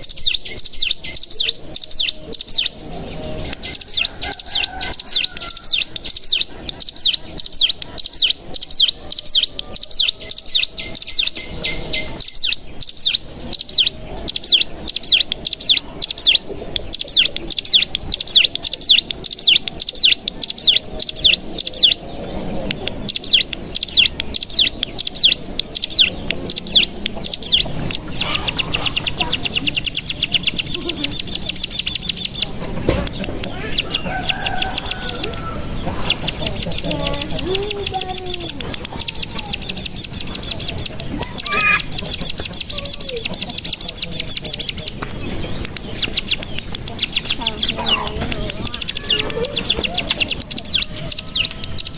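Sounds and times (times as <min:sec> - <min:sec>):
songbird chirping and trilling: 0:00.0 - 0:51.9.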